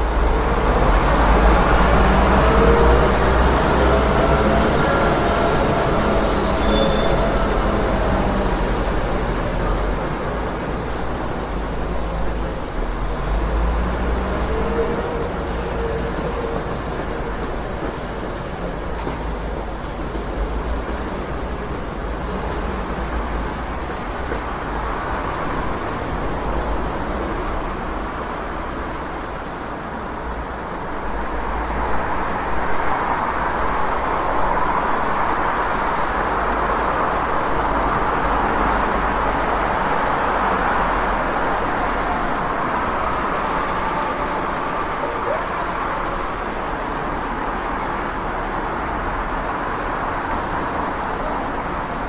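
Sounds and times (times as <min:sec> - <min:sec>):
passing cars: 0:00.0 - 0:52.0.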